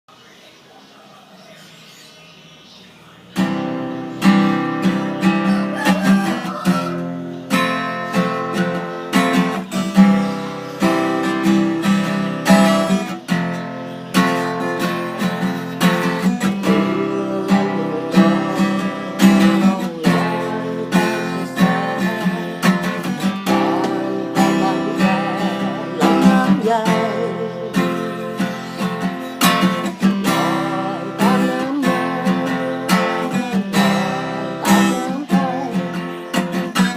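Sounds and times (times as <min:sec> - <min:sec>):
acoustic guitar strumming chords: 0:02.9 - 0:36.9.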